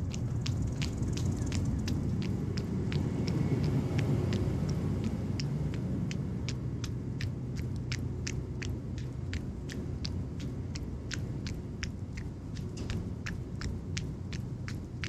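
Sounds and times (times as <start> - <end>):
running footsteps on pavement: 0.0 - 15.0
wind rumbling on microphone: 0.0 - 15.0.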